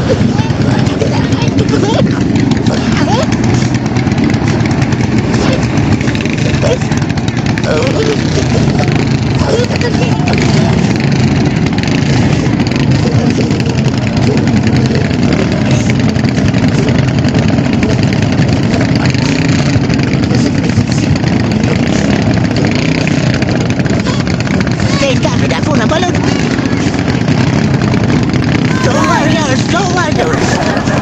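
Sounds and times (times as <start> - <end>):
boat engine running hard: 0.0 - 31.0
propeller churning water: 0.0 - 31.0.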